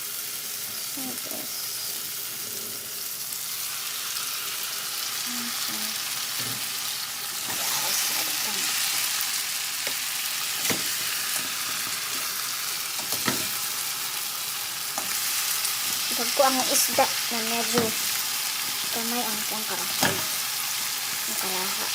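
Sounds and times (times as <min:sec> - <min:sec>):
food sizzling in a frying pan: 0:00.0 - 0:21.9.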